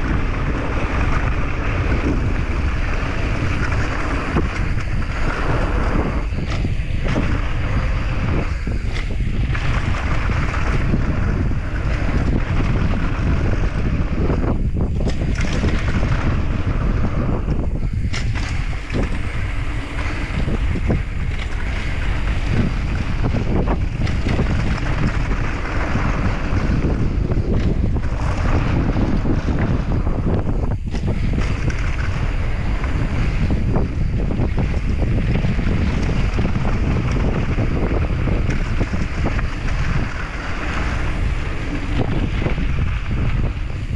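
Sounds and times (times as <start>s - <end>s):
bike rattling over bumps: 0.0s - 43.9s
wind buffeting microphone: 0.0s - 43.9s.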